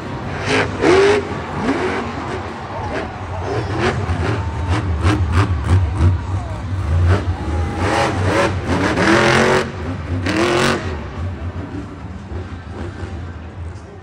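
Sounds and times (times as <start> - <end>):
monster truck engine revving: 0.0 - 13.9.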